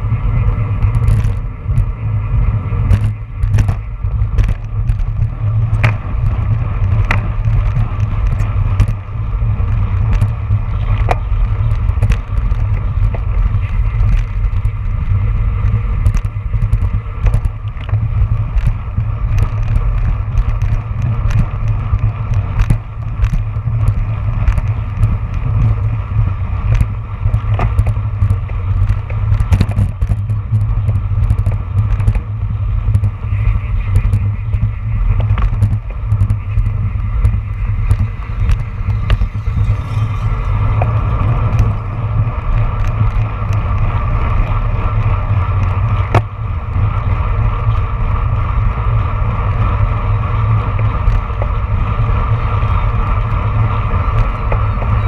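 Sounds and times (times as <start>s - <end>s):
bicycle clicks and rattles: 0.0s - 55.0s
wind buffeting microphone: 0.0s - 55.0s.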